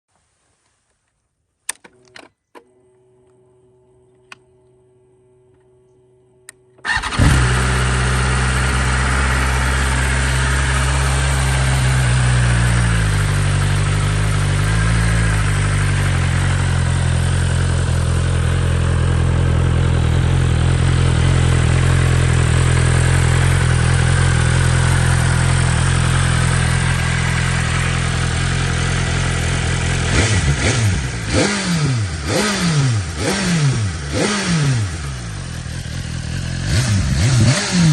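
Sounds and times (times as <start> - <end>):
motorcycle throttle blips: 3.3 - 37.9
motorcycle engine idling: 6.9 - 32.4, 33.0 - 37.9.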